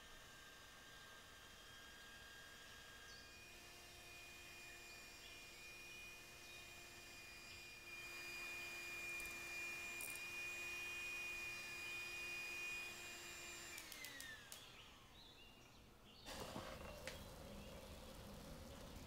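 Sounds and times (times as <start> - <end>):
electric hand mixer whining: 0.0 - 15.3, 16.3 - 19.0.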